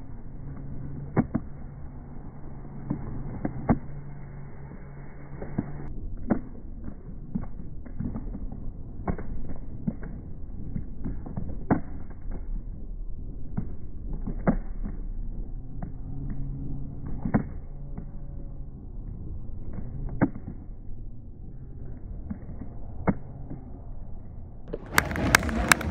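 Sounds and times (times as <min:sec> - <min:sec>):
slowed low street rumble: 0:00.0 - 0:25.9.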